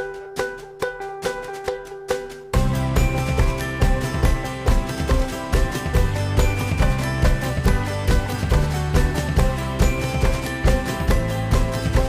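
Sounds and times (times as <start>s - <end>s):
plucked string background music: 0.0s - 12.0s.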